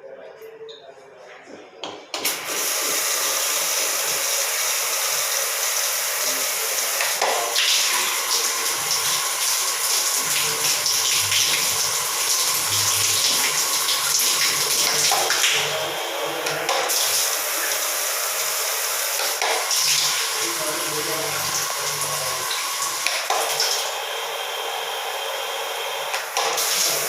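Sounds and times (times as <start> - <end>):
water rushing from a tap: 2.2 - 27.0.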